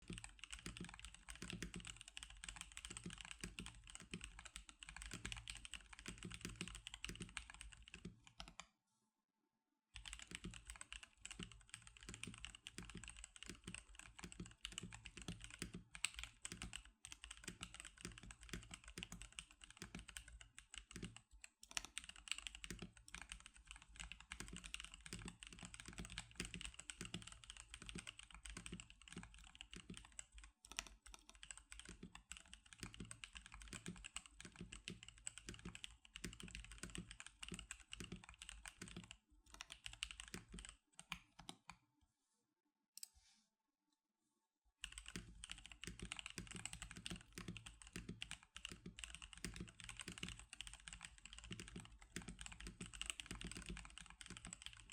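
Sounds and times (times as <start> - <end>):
fast typing on mechanical keyboard: 0.0 - 8.6, 10.0 - 41.5, 44.8 - 54.9.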